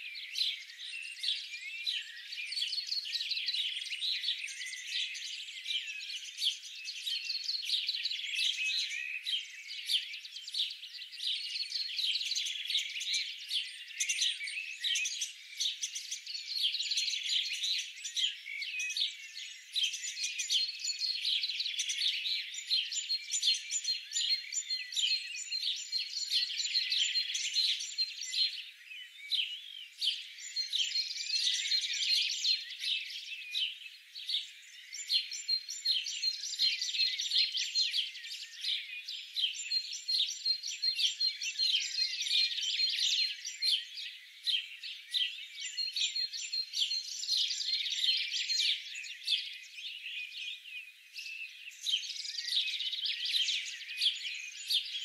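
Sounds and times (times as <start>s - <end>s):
songbirds chirping and twittering: 0.0s - 55.0s.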